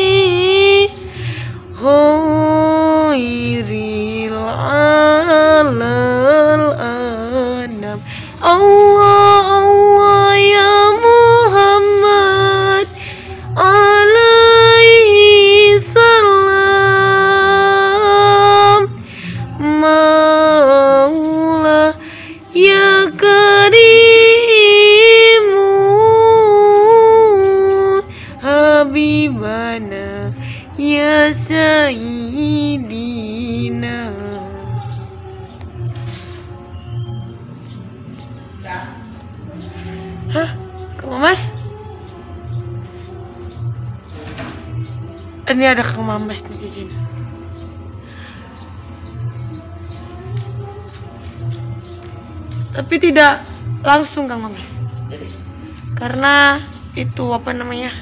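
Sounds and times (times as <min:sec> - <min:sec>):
woman singing devotional song: 0:00.0 - 0:38.6, 0:39.3 - 0:58.0.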